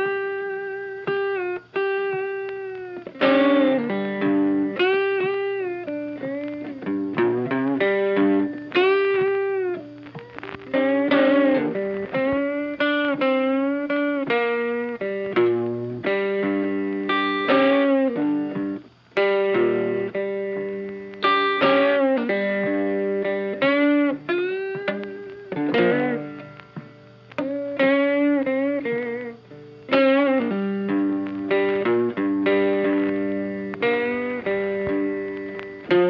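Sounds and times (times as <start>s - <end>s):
instrumental guitar music: 0.0s - 36.0s.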